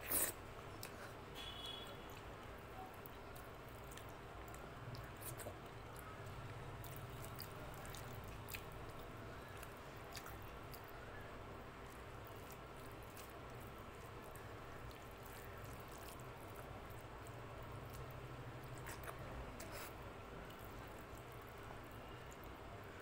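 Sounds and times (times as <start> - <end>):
faint chewing: 0.0 - 23.0
fingers squishing wet food: 2.8 - 21.6.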